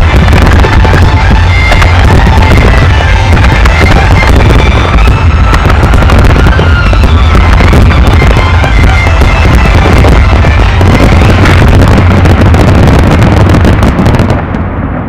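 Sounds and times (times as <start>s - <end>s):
music: 0.0s - 13.8s
fireworks bursting and crackling: 0.0s - 15.0s.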